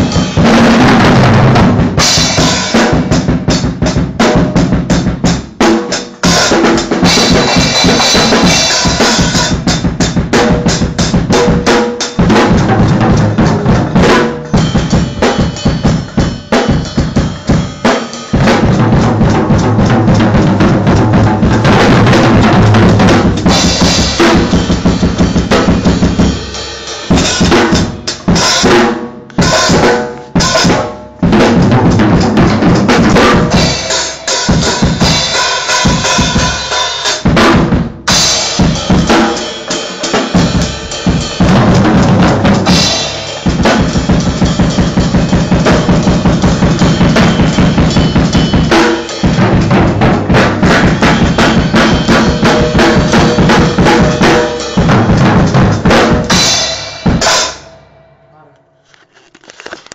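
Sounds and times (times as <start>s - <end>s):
drum kit played fast: 0.0s - 58.2s.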